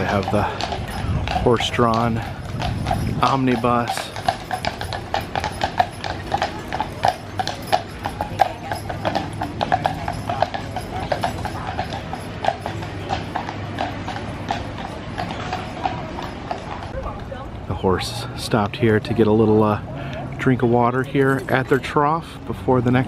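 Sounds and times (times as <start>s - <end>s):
hooves clip-clopping on pavement: 0.0s - 23.0s.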